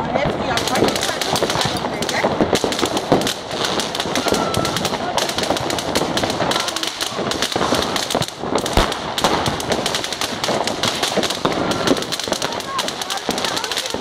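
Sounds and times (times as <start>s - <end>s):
firecrackers and fireworks banging: 0.0s - 14.0s.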